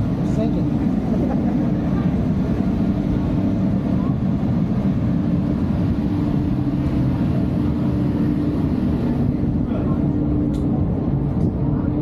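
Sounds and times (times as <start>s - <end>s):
ship machinery low rumble: 0.0s - 12.0s
ventilation hum: 0.0s - 12.0s.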